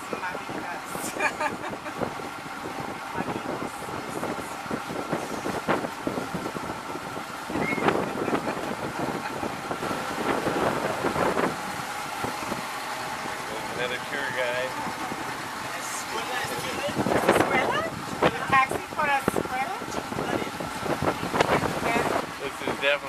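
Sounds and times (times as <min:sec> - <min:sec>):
boat motor running: 0:00.0 - 0:23.0
wind buffeting microphone: 0:00.0 - 0:23.0.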